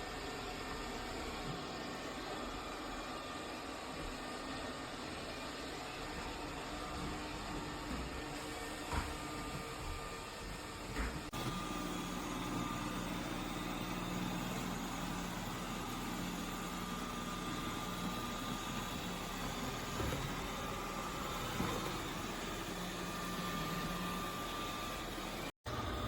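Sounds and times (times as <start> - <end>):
robot vacuum whirring: 0.1 - 26.0.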